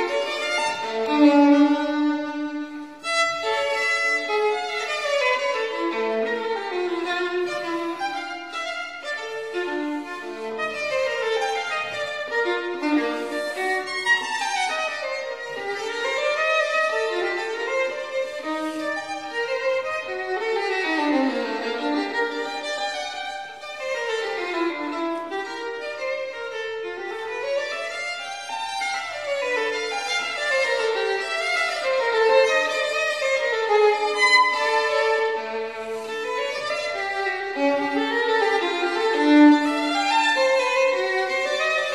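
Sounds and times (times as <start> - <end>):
violin playing fast scales: 0.0 - 41.9.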